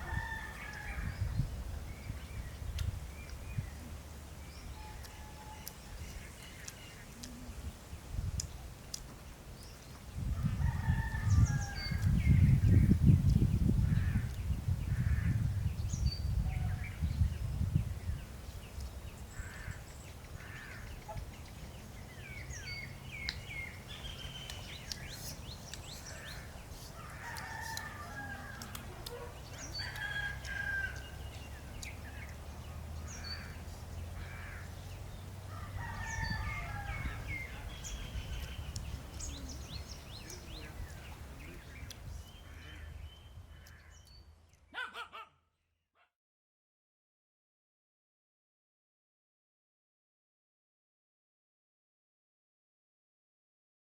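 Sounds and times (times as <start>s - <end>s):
birds chirping and calling: 0.0s - 7.7s, 8.4s - 45.2s.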